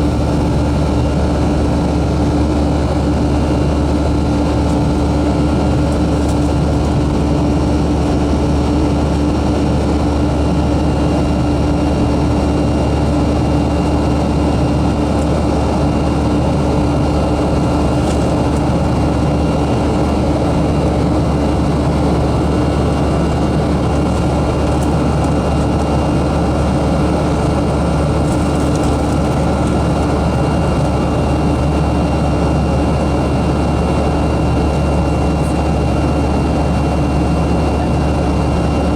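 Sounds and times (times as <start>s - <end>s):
constant low hum: 0.0s - 38.9s
jet engine cabin drone: 0.0s - 38.9s.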